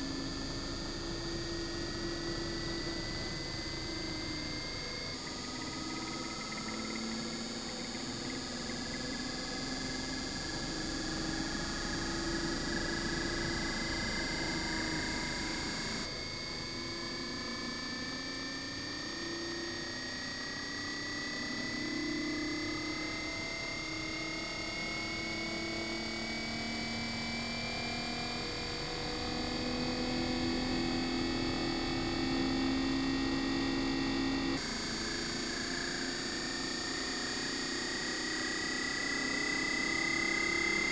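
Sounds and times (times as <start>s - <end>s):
air conditioner compressor whine: 0.0s - 40.9s.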